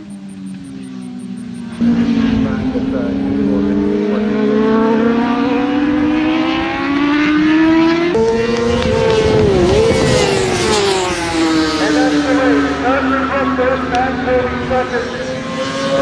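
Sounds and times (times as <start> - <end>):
motorcycle passing: 0.0 - 16.0
sport bike engines revving: 0.0 - 16.0.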